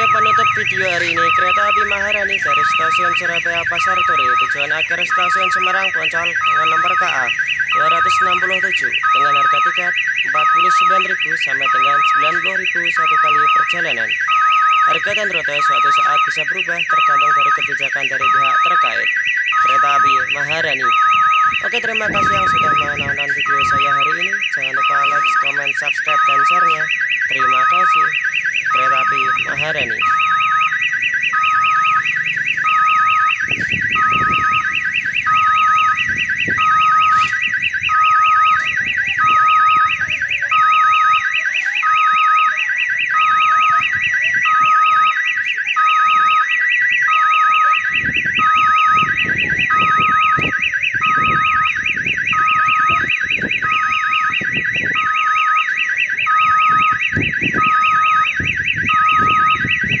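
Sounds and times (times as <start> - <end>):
level crossing warbling siren: 0.0 - 60.0.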